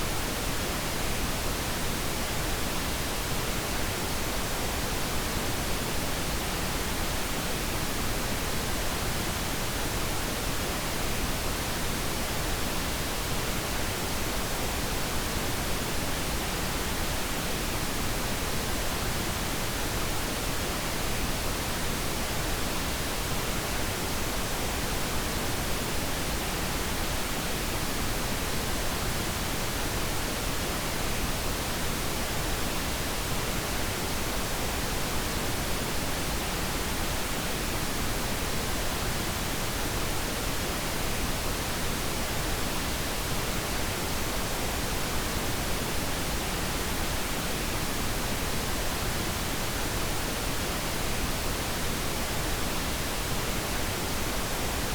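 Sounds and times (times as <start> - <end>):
steady pink noise hiss: 0.0 - 54.9.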